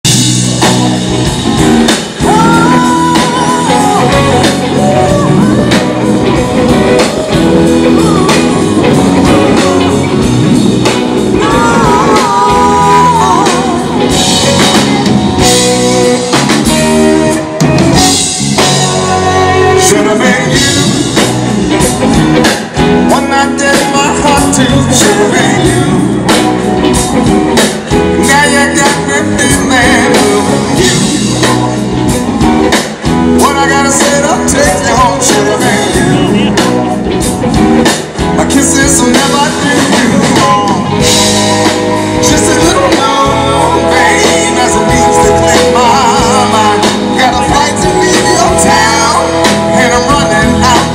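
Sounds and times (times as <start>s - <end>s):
drum kit: 0.0s - 50.9s
electric guitars: 0.0s - 50.9s
person singing: 0.6s - 32.0s, 32.7s - 50.9s.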